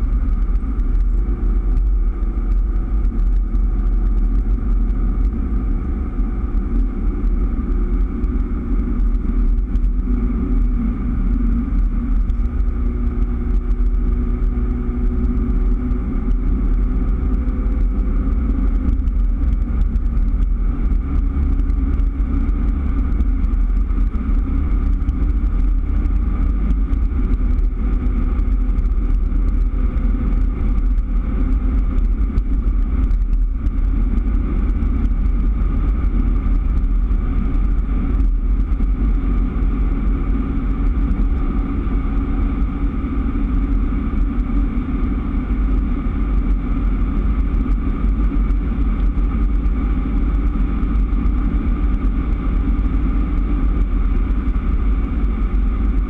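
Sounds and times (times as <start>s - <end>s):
car engine drone: 0.0s - 56.0s
road rumble inside car: 0.0s - 56.0s.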